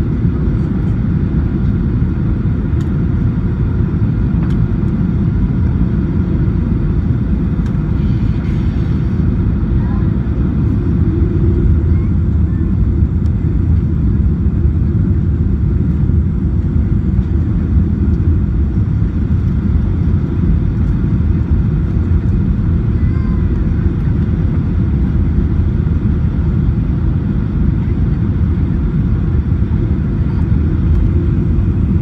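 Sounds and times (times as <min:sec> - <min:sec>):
jet engines rumbling in cabin: 0:00.0 - 0:32.0.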